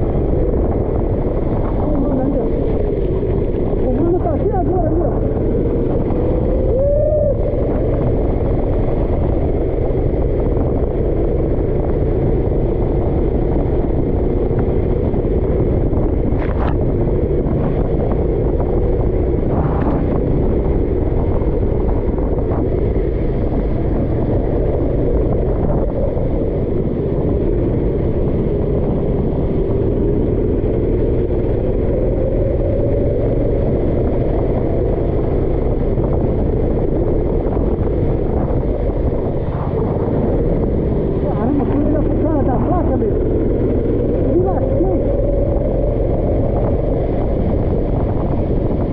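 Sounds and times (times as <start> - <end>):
kart engine running hard: 0.0 - 48.9
wind rushing on microphone: 0.0 - 48.9.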